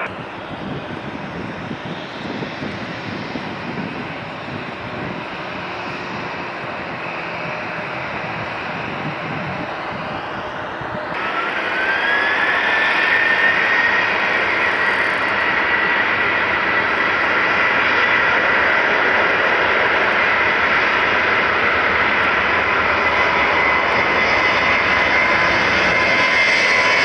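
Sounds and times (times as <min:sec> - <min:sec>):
jet engines spooling up: 0:00.0 - 0:27.0.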